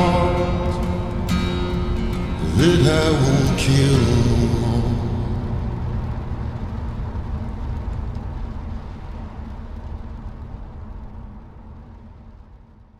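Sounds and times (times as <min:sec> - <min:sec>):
car road and engine rumble: 0:00.0 - 0:12.9.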